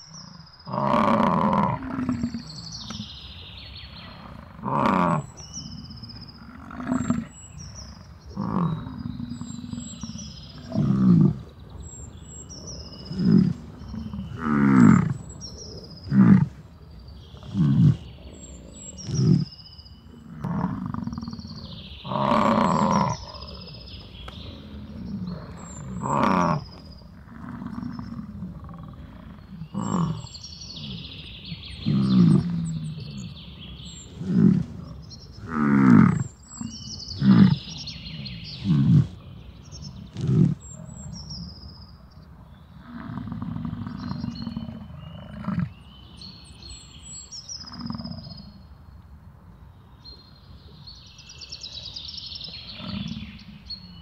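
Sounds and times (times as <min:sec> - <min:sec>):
bison grunting and bellowing: 0:00.0 - 0:48.8, 0:51.5 - 0:54.0.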